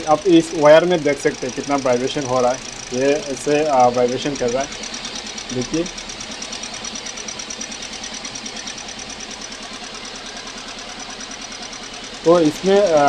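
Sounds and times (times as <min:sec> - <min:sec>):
car engine idling rough: 0:00.0 - 0:13.0.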